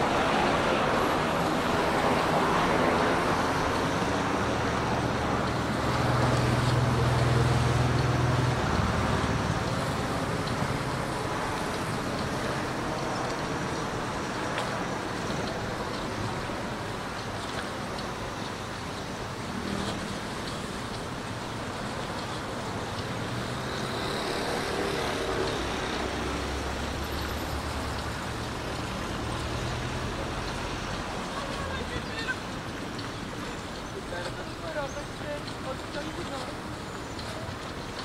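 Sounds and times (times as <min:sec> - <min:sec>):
road traffic noise: 0:00.0 - 0:38.0
sea water washing against quay wall: 0:00.0 - 0:38.0.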